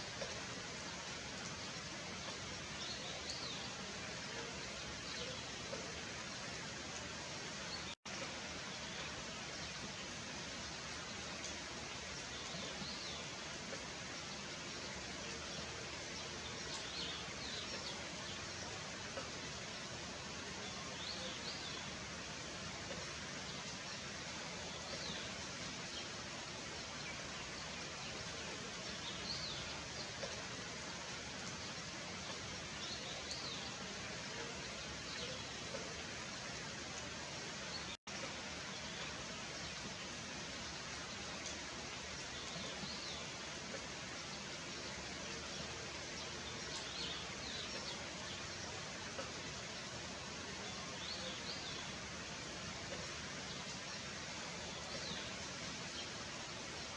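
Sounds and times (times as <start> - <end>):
rain hiss: 0.0 - 56.9.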